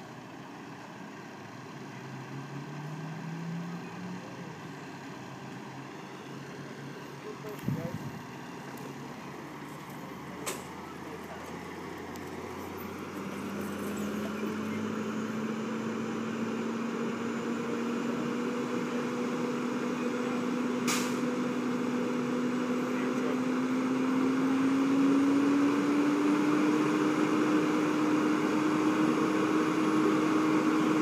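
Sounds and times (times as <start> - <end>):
engine drone rising in pitch: 2.0 - 31.0.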